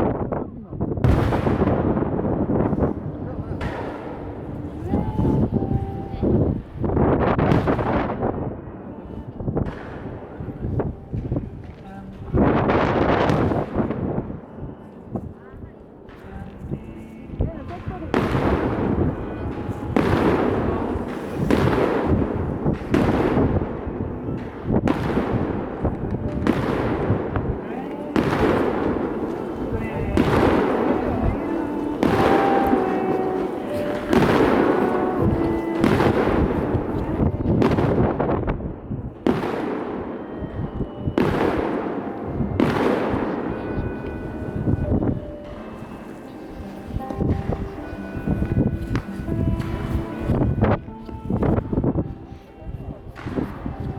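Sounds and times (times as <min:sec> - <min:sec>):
echoing rumble: 0:00.9 - 0:52.1
firework shells booming: 0:01.0 - 0:15.3, 0:16.0 - 0:51.9.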